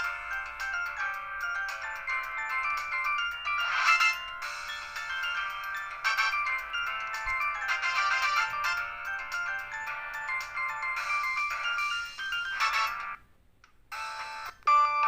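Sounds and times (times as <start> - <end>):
polyphonic phone ringtone: 0.0 - 13.2, 13.9 - 15.0.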